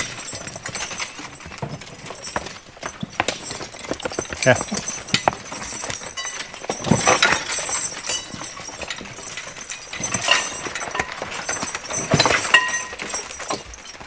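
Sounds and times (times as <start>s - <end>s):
horse hooves on stony ground: 0.0s - 14.0s.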